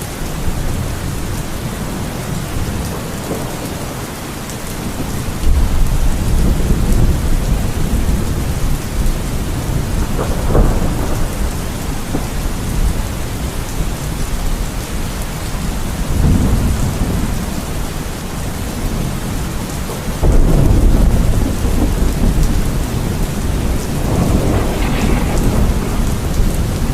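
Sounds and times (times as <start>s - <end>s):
steady rain falling: 0.0s - 26.9s
deep rolling thunder: 4.8s - 26.9s.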